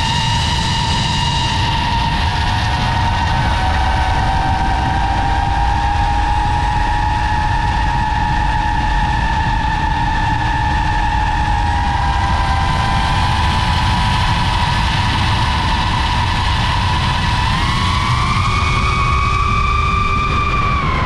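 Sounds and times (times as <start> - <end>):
drone propellers whining: 0.0 - 21.0
wind rumble on microphone: 0.0 - 21.0.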